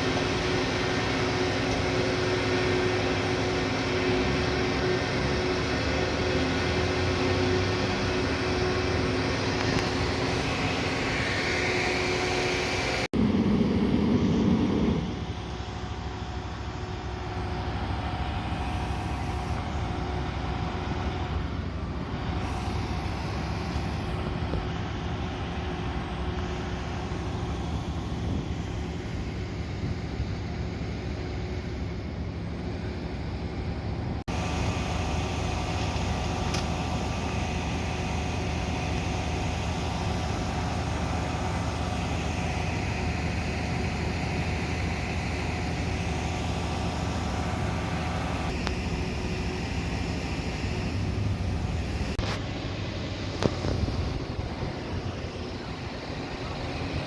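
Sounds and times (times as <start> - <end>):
fire engine idling: 0.0 - 57.0.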